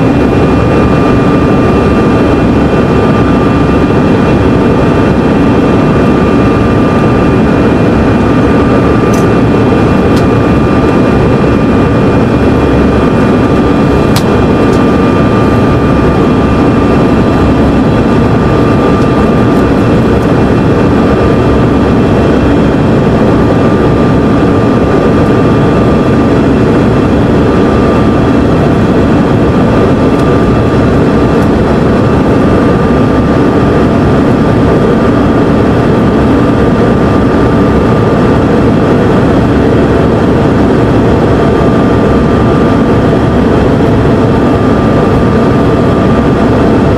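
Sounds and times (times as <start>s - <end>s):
jet engine roar: 0.0s - 46.9s
rushing air: 0.0s - 46.9s
thin steady whine: 0.0s - 46.9s.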